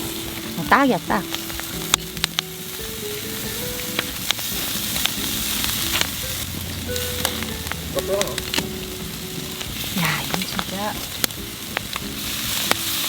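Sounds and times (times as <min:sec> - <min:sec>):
meat sizzling on a grill: 0:00.0 - 0:13.0
sharp pops: 0:00.0 - 0:13.0.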